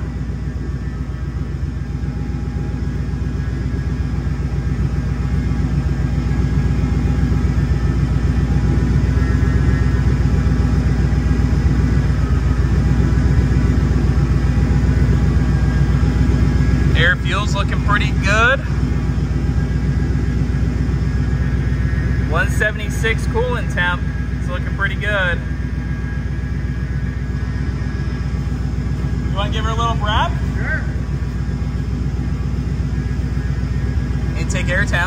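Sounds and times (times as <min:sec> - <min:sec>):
engine idling with deep rumble: 0:00.0 - 0:35.0.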